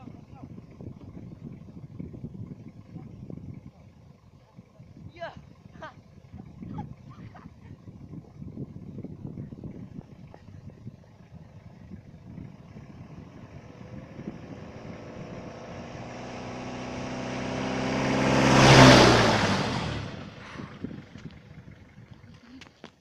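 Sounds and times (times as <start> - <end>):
truck engine passing by: 1.6 - 22.5.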